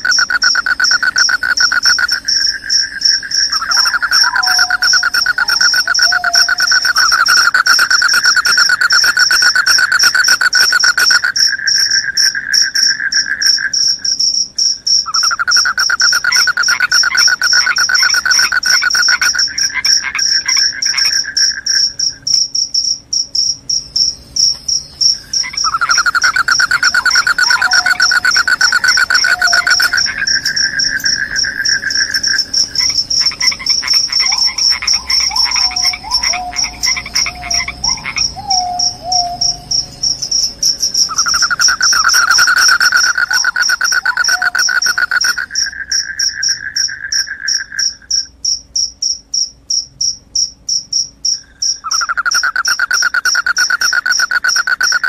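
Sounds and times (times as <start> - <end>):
crickets high-pitched trill: 0.0 - 55.0
lower louder cricket trill: 0.0 - 55.0.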